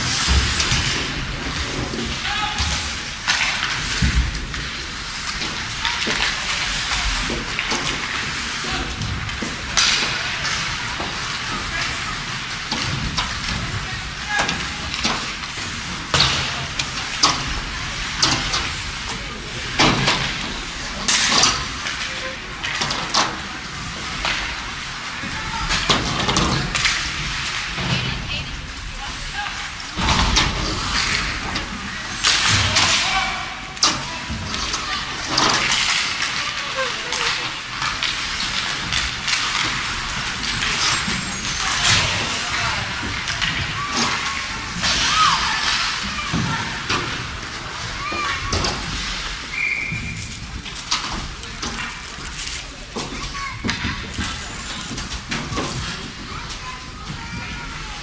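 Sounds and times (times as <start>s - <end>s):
crowd chatter: 0.0s - 58.0s
skates and sticks scraping ice: 0.0s - 58.0s.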